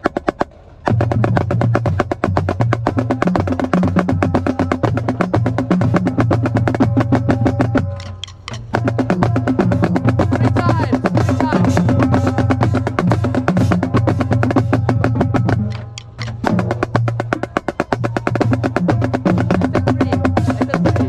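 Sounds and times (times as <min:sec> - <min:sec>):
low drum notes: 0:00.0 - 0:21.0
marching snare drum strokes: 0:00.0 - 0:21.0.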